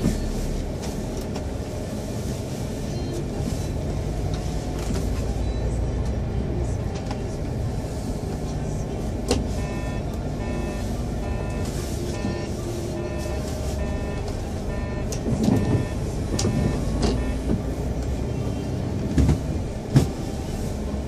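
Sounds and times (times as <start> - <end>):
engine and road noise: 0.0 - 21.0.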